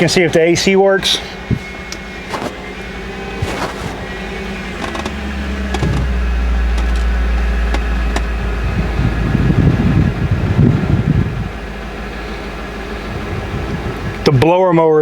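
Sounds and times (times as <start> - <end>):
deep steady hum: 0.0 - 14.3
car engine idling: 0.0 - 15.0.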